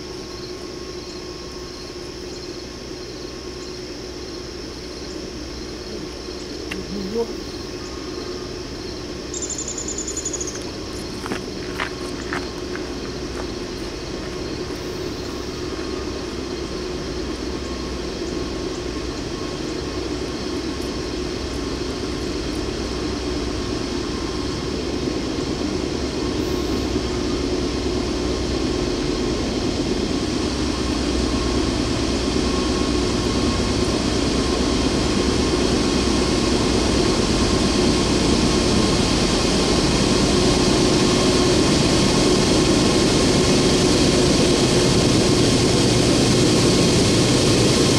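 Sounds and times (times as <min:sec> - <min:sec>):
diesel locomotive droning: 0:00.0 - 0:47.9.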